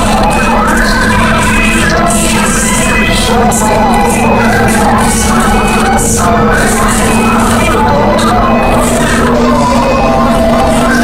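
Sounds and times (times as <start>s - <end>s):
loud dense music: 0.0s - 11.0s.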